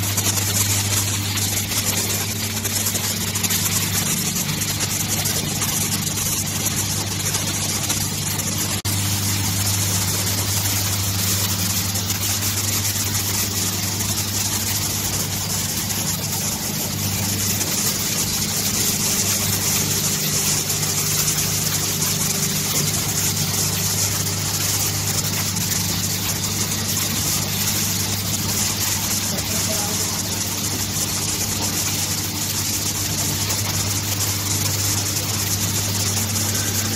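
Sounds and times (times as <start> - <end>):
machine hum with high hiss: 0.0 - 36.9.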